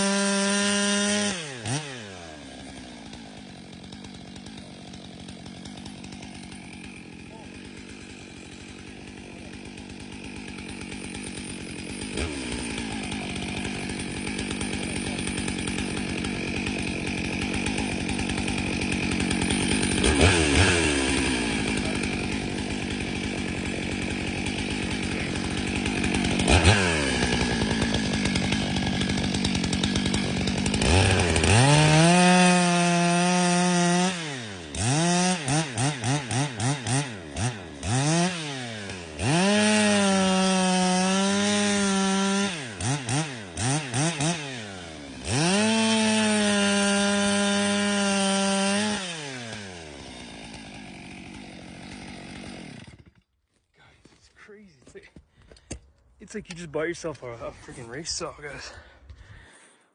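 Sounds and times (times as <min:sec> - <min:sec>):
chainsaw cutting log: 0:00.0 - 0:59.7.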